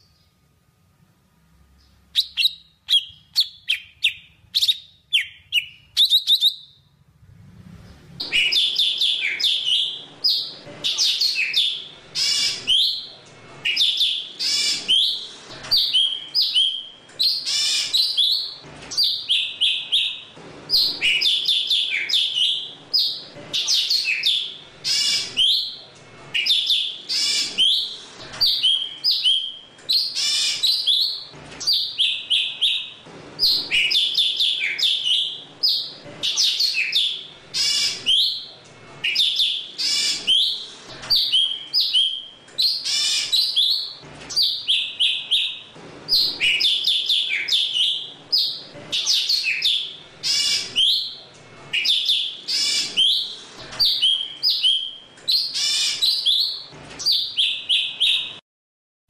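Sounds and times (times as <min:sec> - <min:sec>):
bird singing: 0:01.8 - 0:06.9, 0:08.2 - 0:58.4.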